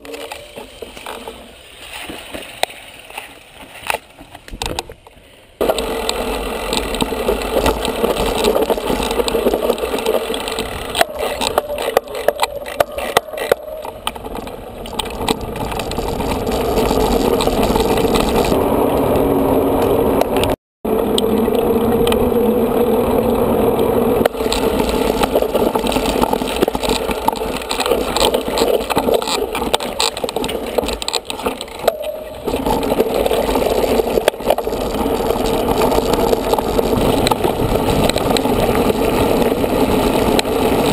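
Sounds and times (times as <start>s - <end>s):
bike rattling: 0.0s - 40.9s
bike tyres rolling: 0.0s - 40.9s
wind on microphone: 5.8s - 40.9s.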